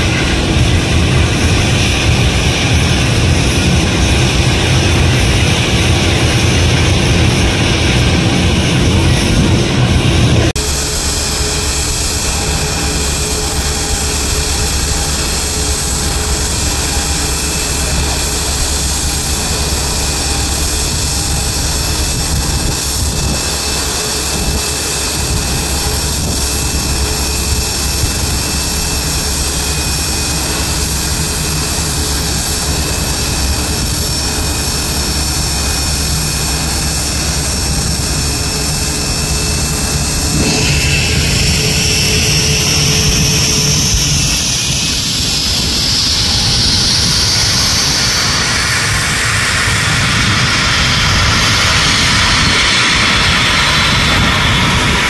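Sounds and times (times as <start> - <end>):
higher whine: 0.0 - 55.0
jet engines whining and rumbling: 0.0 - 55.0.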